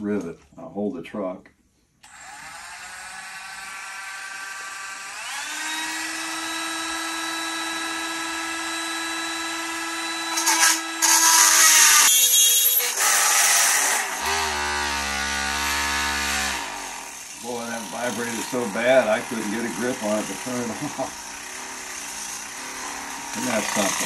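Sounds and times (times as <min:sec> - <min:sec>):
drill bit cutting plastic: 0:02.0 - 0:24.0
rotary tool whining: 0:02.0 - 0:24.0.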